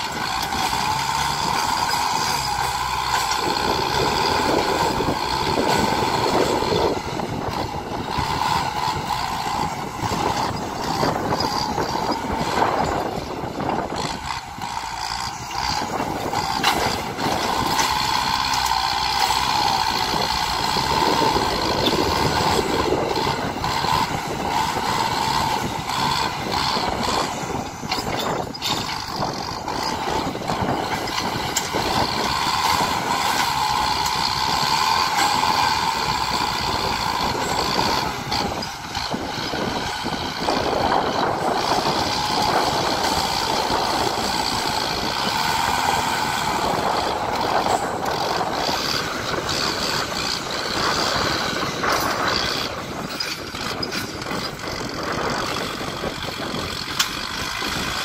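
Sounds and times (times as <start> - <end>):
blade pushing soil: 0.0 - 58.0
tractor diesel engine under load: 0.0 - 58.0.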